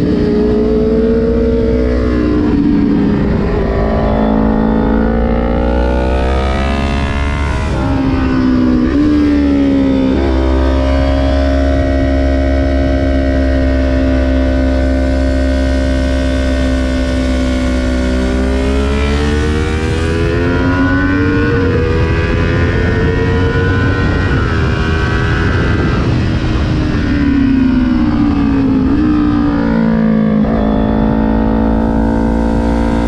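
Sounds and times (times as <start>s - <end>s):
motorcycle engine revving: 0.0s - 33.0s
wind rumbling on microphone: 0.0s - 33.0s.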